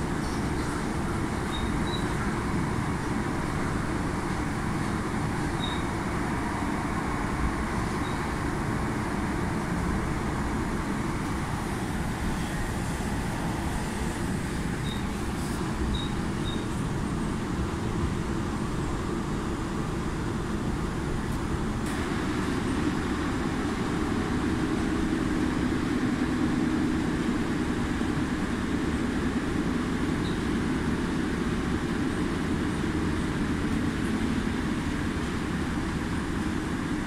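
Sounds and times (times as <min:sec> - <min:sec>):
train rumbling inside carriage: 0:00.0 - 0:37.0.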